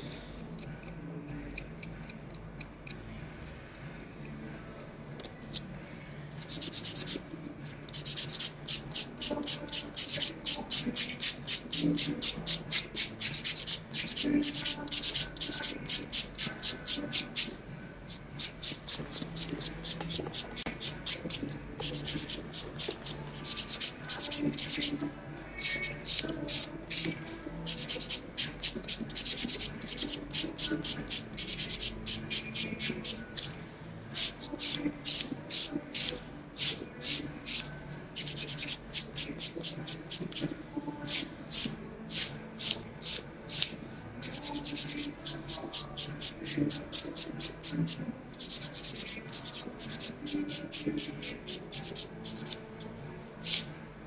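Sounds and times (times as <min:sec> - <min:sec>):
nail file rasping on fingernails: 0:06.4 - 0:52.7, 0:53.4 - 0:53.6.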